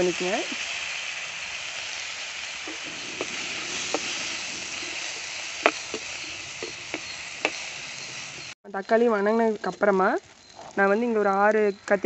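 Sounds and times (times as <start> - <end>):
vegetables sizzling in hot oil: 0.0 - 11.7.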